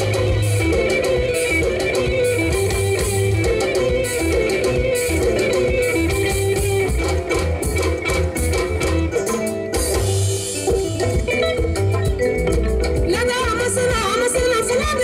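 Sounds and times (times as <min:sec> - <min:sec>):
bass guitar: 0:00.0 - 0:15.0
drums: 0:00.0 - 0:15.0
electric guitar melody: 0:00.0 - 0:15.0.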